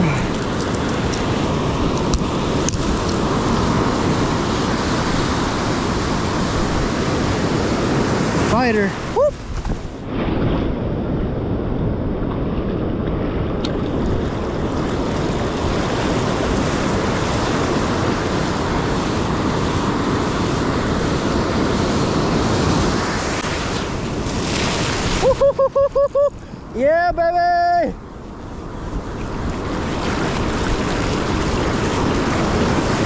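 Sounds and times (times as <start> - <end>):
wind on microphone: 0.0 - 26.8, 27.6 - 33.0
ocean surf rushing: 0.0 - 33.0.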